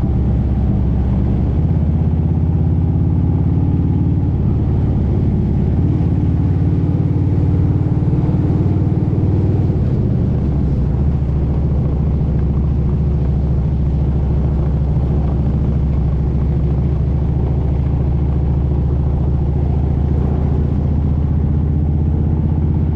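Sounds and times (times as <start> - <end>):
motorcycle engine drone: 0.0 - 22.9.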